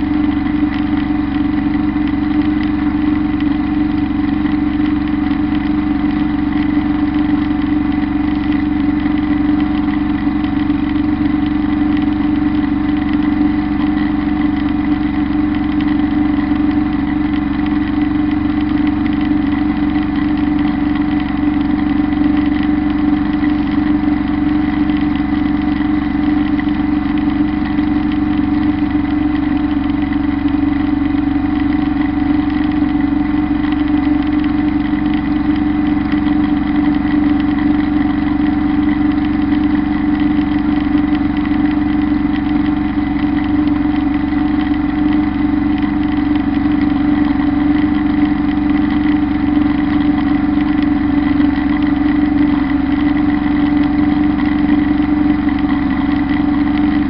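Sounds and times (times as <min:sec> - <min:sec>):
tractor diesel engine drone: 0:00.0 - 0:57.0.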